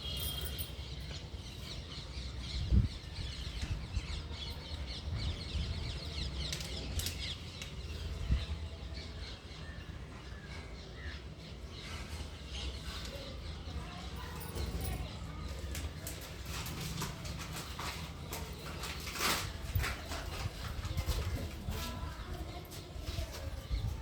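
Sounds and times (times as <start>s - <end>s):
birds chirping and twittering: 0.0s - 24.0s.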